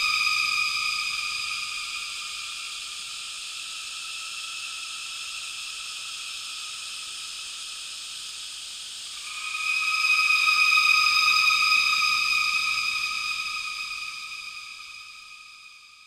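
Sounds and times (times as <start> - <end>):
cicadas buzzing: 0.0 - 15.9.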